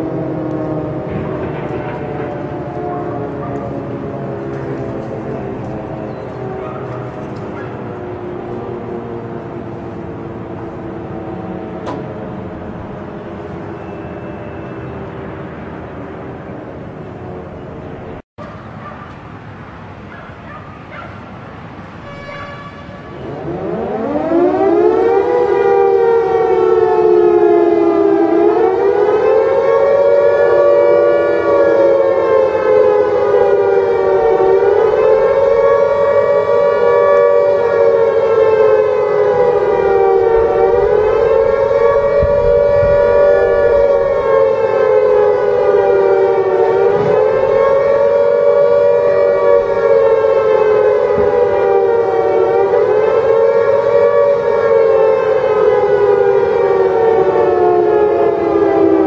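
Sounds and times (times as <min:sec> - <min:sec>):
siren wailing: 0:00.0 - 0:18.2, 0:21.8 - 0:59.0.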